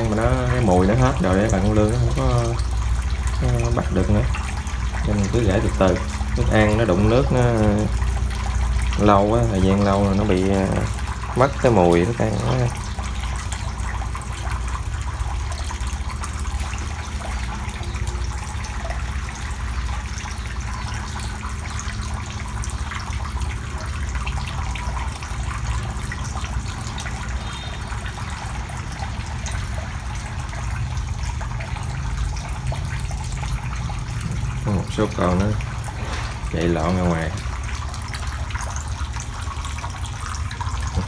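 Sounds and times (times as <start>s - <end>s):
low steady hum: 0.0s - 41.0s
water running into tank: 0.0s - 41.0s.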